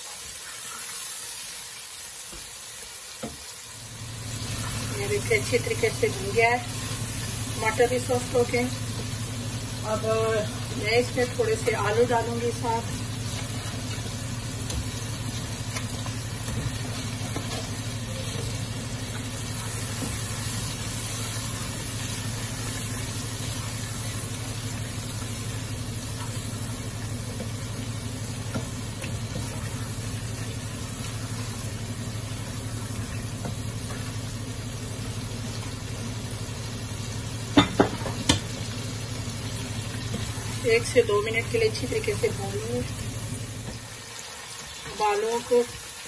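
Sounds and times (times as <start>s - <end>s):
potatoes sizzling in a pot: 0.0s - 46.0s.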